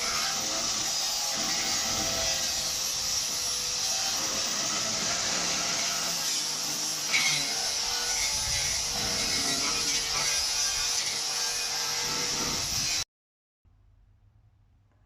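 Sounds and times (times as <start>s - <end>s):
angle grinder cutting metal: 0.0s - 13.0s.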